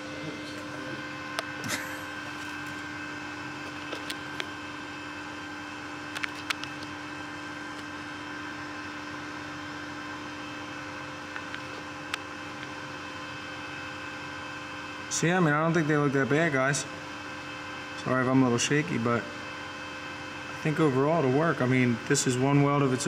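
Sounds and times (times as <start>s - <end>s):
welder cooling fan humming: 0.0s - 23.0s.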